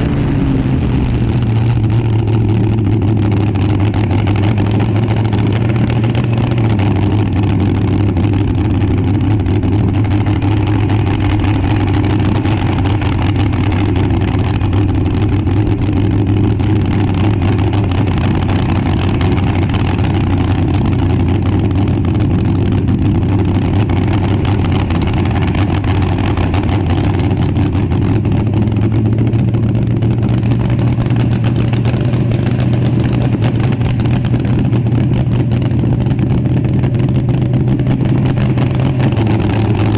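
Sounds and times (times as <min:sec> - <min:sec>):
dragster engine idling: 0:00.0 - 0:39.9.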